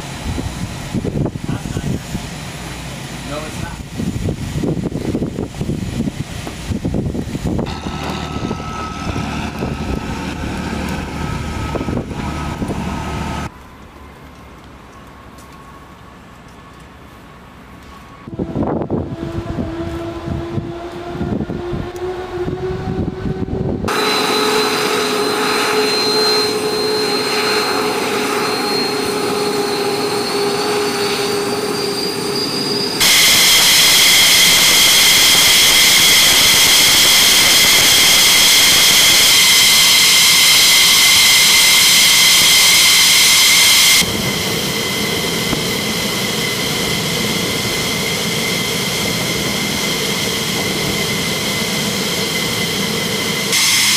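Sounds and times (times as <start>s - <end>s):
jet engines whining: 0.0s - 13.5s, 18.1s - 53.9s.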